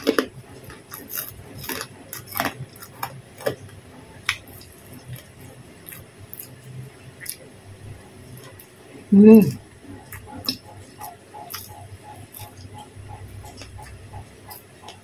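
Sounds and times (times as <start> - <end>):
chewing crunchy food: 0.0 - 8.9, 9.5 - 15.0.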